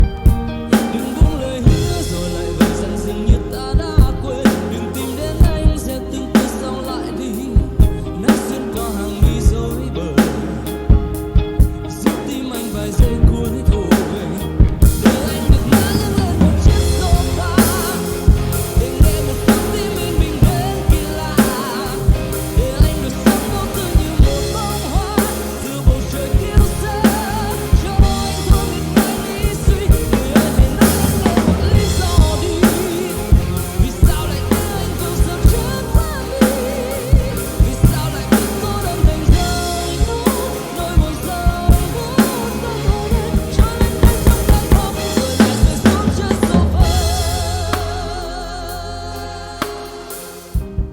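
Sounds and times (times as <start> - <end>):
bass line: 0.0 - 50.9
keyboard drum beat: 0.0 - 50.9
wavering keyboard melody: 0.0 - 50.9.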